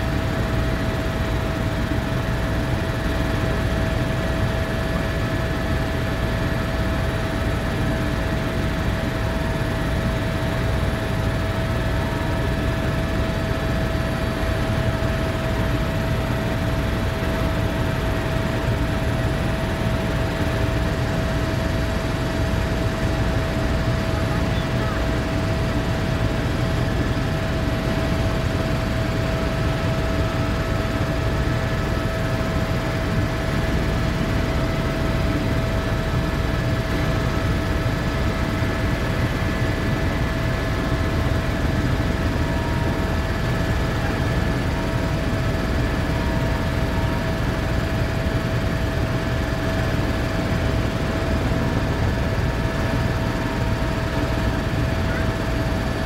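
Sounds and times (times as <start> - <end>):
helicopter rotor and engine rumble: 0.0 - 56.0.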